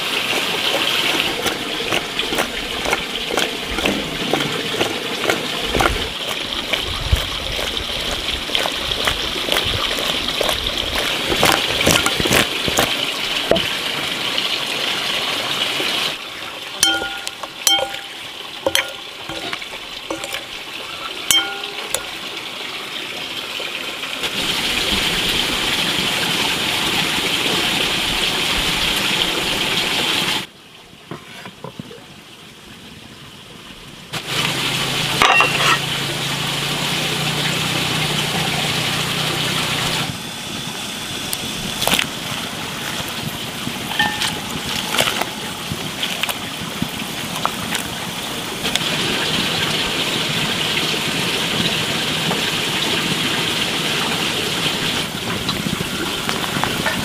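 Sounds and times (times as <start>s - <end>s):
water boiling: 0.0s - 33.0s, 34.0s - 57.0s.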